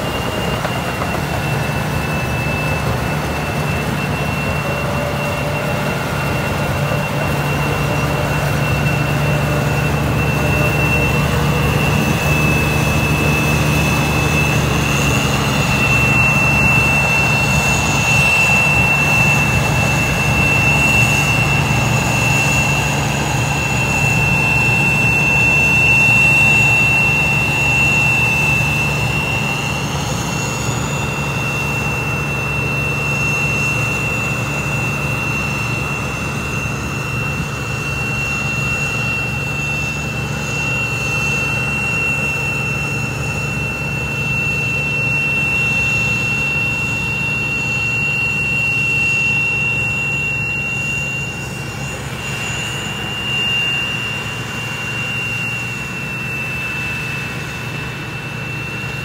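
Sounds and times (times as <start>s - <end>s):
combine harvester engine drone: 0.0s - 59.0s
high steady whine: 0.0s - 59.0s.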